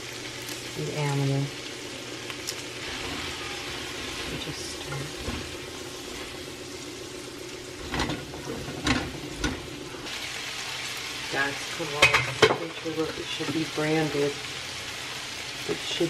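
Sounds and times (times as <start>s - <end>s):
asparagus sizzling in a frying pan: 0.0s - 16.0s.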